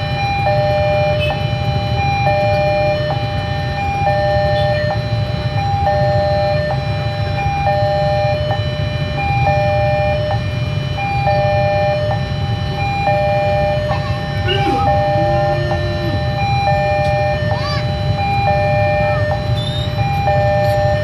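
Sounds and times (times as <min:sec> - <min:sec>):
level crossing alarm chimes: 0:00.0 - 0:21.0.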